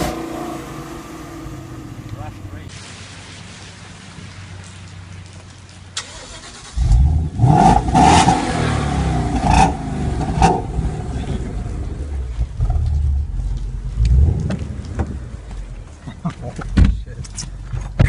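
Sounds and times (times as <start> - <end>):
car engine idling and revving: 0.0 - 2.7, 5.9 - 18.0.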